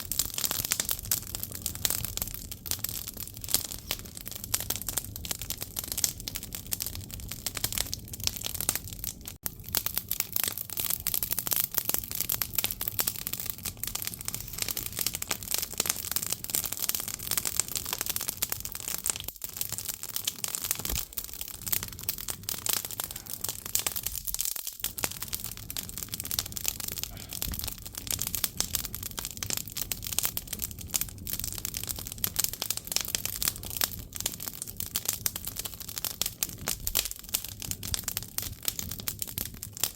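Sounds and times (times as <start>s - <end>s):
logs crackling and snapping: 0.0s - 39.9s
steady fire hiss: 0.0s - 39.9s.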